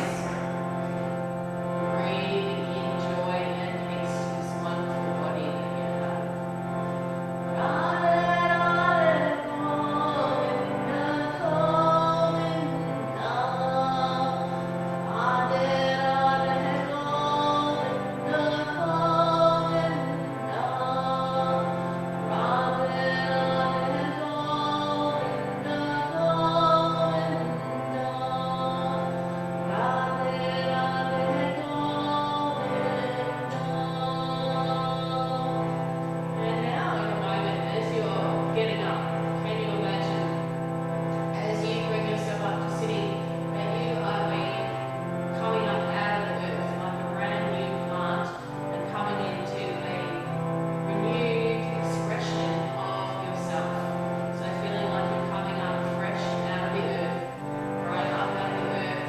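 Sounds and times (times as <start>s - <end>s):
chant singing: 0.0s - 59.0s
low instrumental drone: 0.0s - 59.0s.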